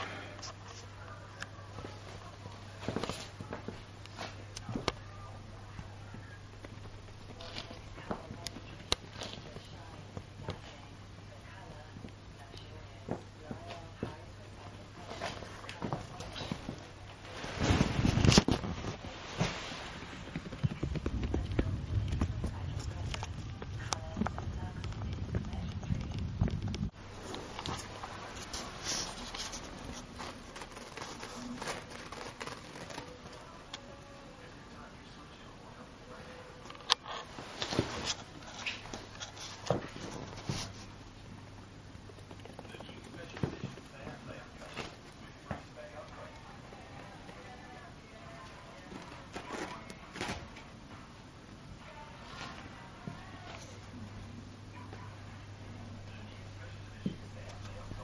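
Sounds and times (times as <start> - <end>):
steady low hum: 0.0 - 58.0
hamster feet pattering and scratching: 0.4 - 34.0, 36.7 - 50.8.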